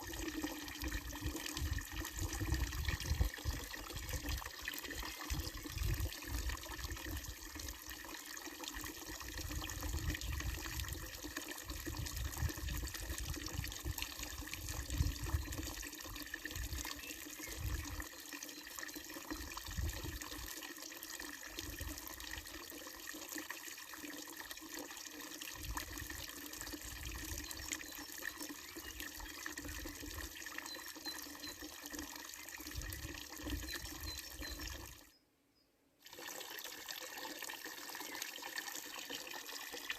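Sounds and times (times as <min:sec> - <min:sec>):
fountain water splashing into basin: 0:00.0 - 0:35.0, 0:36.0 - 0:39.9.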